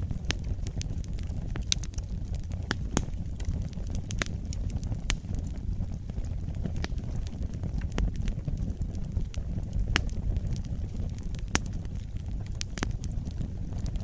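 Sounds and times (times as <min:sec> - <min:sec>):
wood fire burning: 0:00.0 - 0:14.0.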